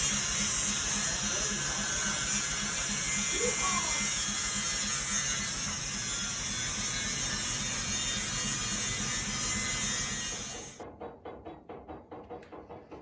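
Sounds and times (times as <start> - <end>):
machine hissing and pulsing: 0.0 - 10.8.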